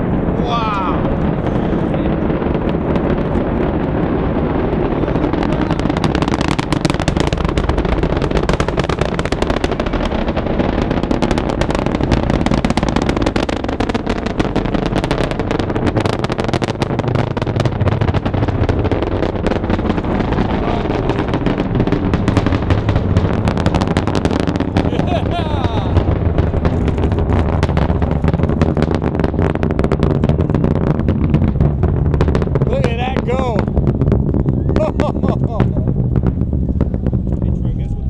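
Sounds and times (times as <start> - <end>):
rocket launch roar with crackling: 0.0 - 38.0.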